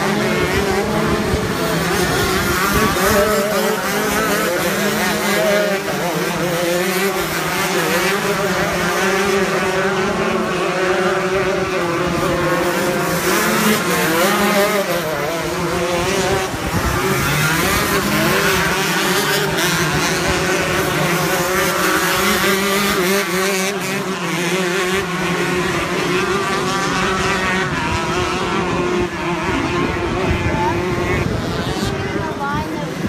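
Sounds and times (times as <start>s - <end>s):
kart engines at high revs: 0.0s - 33.0s.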